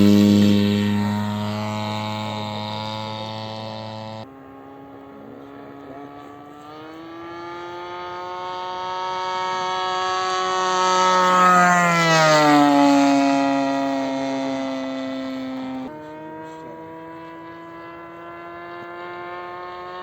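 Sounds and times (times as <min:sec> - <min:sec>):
model airplane engine: 0:00.0 - 0:20.0.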